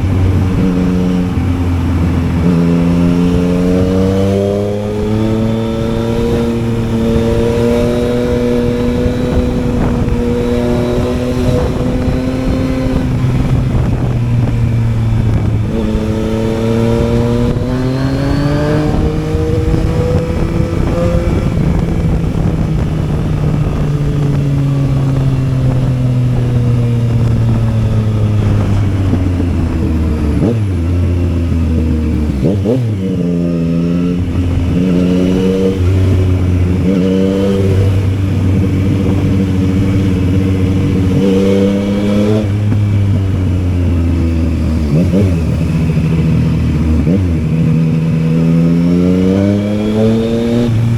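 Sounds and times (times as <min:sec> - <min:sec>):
motorcycle engine revving: 0:00.0 - 0:50.9
wind rush: 0:00.0 - 0:50.9.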